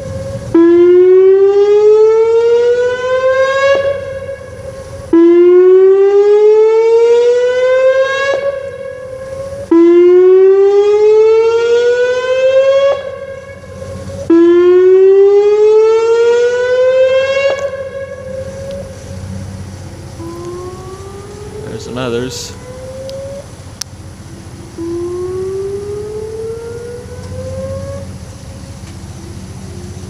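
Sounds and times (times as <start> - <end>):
held siren tone: 0.0 - 30.0
warning siren rising glides: 0.0 - 30.0.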